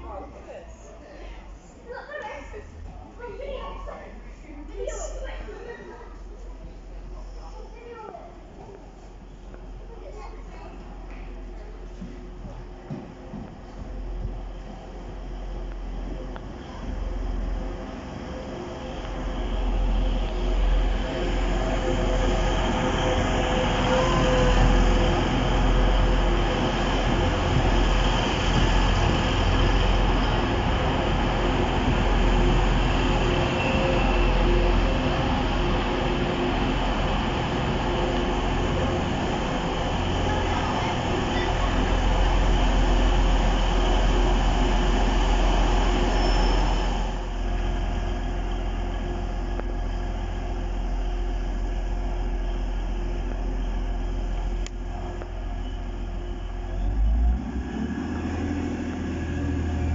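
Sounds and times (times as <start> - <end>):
diesel train engines running: 0.0 - 59.9
train wheels rumbling on rails: 1.6 - 59.9.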